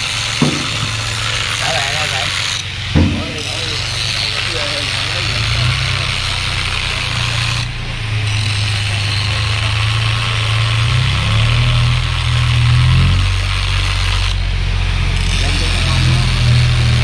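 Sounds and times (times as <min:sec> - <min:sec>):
angle grinder cutting metal: 0:00.0 - 0:17.0
engine humming: 0:00.0 - 0:17.0.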